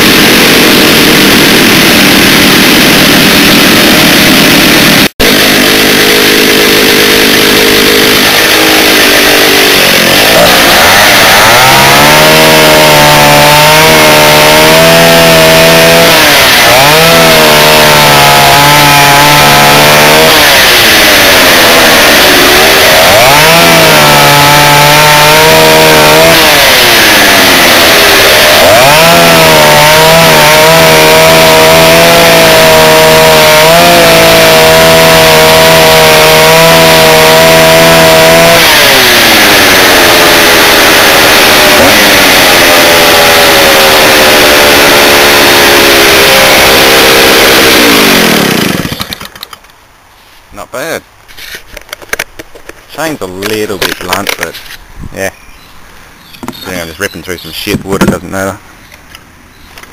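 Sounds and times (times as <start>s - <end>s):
chainsaw cutting wood: 0.0s - 49.7s, 51.4s - 54.8s.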